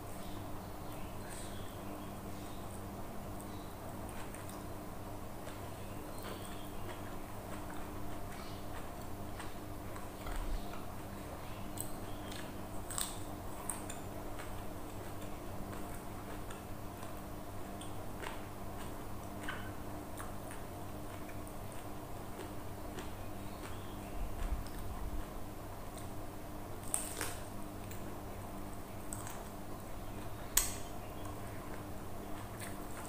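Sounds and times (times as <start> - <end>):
steady low hum: 0.0 - 33.0
person chewing food: 0.8 - 33.0.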